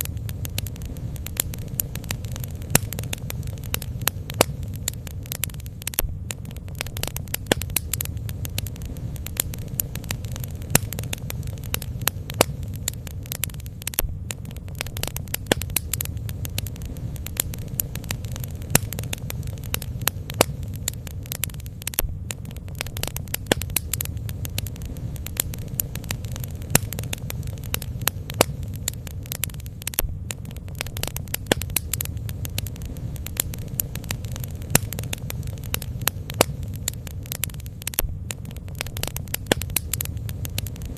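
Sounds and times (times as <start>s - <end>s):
bonfire crackling and popping: 0.0s - 40.9s
low fire rumble: 0.0s - 40.9s.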